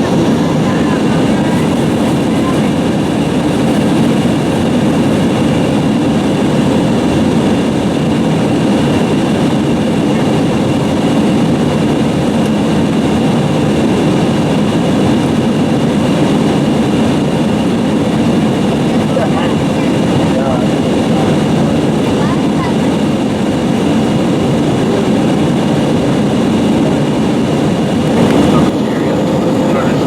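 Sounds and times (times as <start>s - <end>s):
aircraft engines droning: 0.0s - 30.0s.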